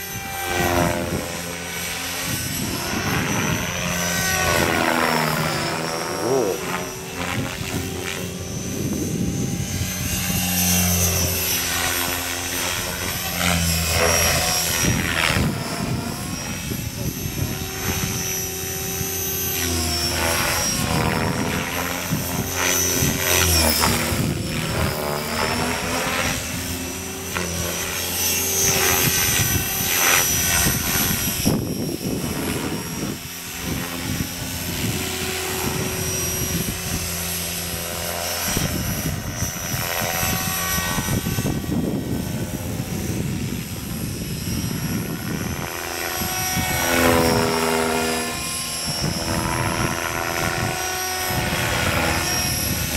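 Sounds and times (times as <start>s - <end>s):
motor and gear whine: 0.0s - 52.9s
rc helicopter rotor buzz: 0.0s - 52.9s.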